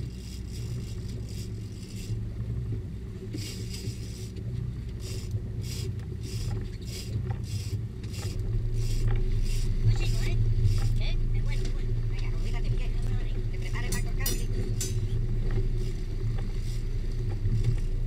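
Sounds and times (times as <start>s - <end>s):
fishing reel clicking and scraping: 0.0s - 2.2s, 3.3s - 18.0s
boat engine idling: 0.0s - 18.0s.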